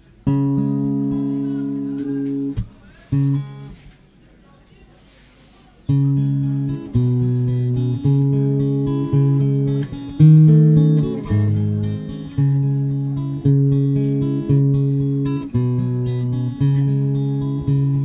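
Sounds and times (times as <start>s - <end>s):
acoustic guitar chords: 0.0s - 3.9s, 5.9s - 18.0s.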